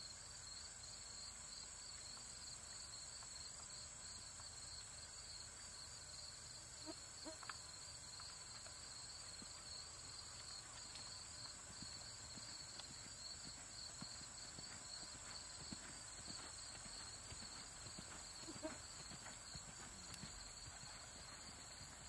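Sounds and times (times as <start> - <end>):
horse hooves on dirt: 1.2 - 6.3, 6.9 - 22.0
insects chirring: 2.8 - 22.0.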